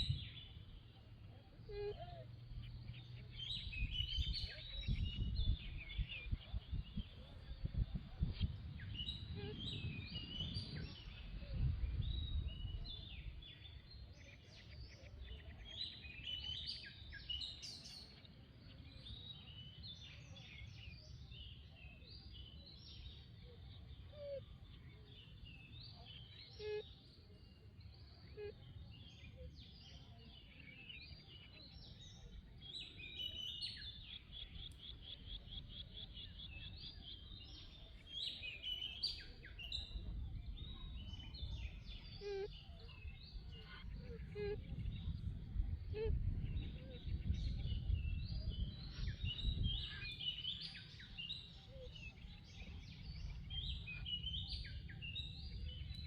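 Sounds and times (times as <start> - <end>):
low rumble of wind: 0.0 - 56.0
songbirds chirping: 0.0 - 56.0.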